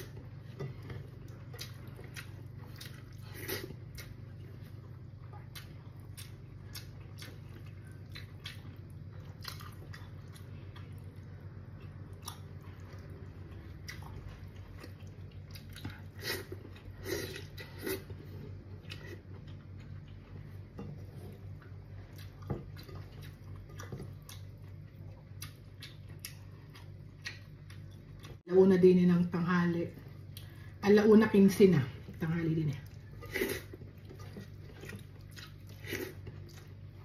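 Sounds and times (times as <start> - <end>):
person chewing: 0.0 - 28.4, 32.8 - 37.0.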